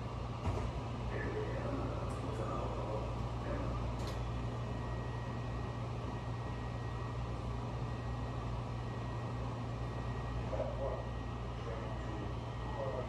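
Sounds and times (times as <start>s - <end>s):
faint high whine: 0.4s - 13.0s.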